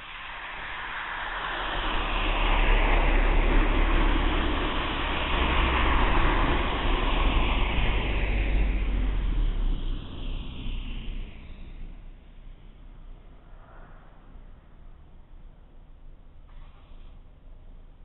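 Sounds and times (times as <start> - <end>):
low engine rumble: 0.0 - 18.0
passing vehicle tyre noise: 0.0 - 18.0.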